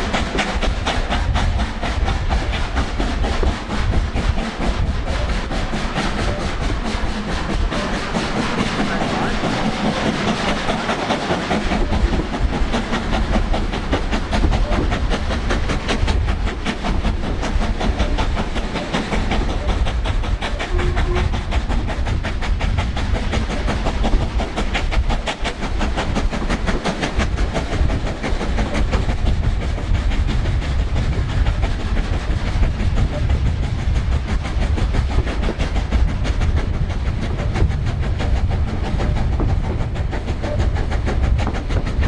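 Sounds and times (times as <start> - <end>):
steam locomotive beat: 0.0 - 42.0
train rumbling on rails: 0.0 - 42.0.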